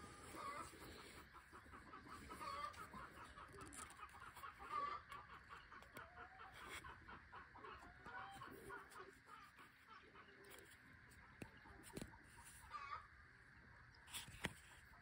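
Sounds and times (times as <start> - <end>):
chickens clucking: 0.0 - 14.3.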